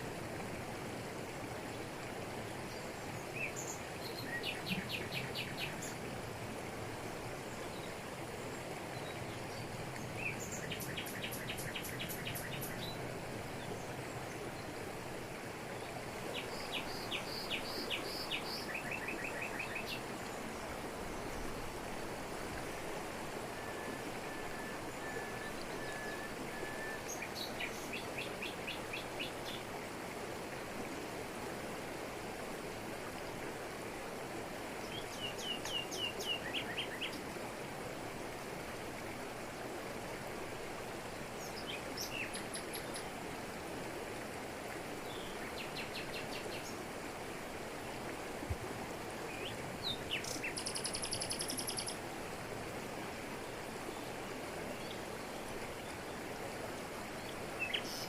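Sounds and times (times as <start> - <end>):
waterfall pouring over rocks: 0.0 - 58.0.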